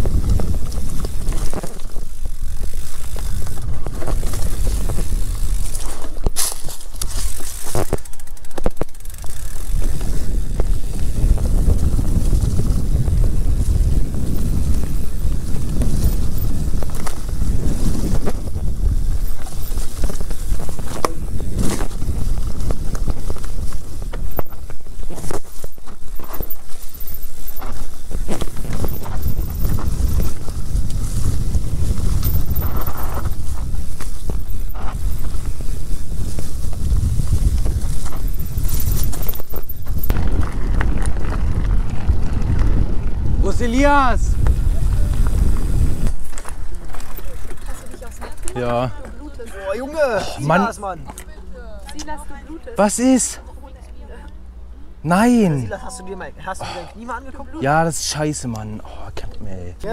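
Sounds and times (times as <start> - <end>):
wind buffeting microphone: 0.0 - 52.6
bike clicks and rattles: 0.0 - 54.4
tyres rumbling over dirt: 0.0 - 58.7.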